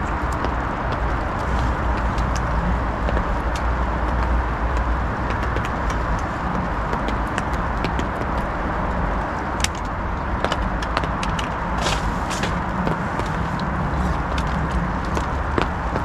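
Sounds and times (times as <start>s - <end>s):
low outdoor rushing noise: 0.0s - 16.0s.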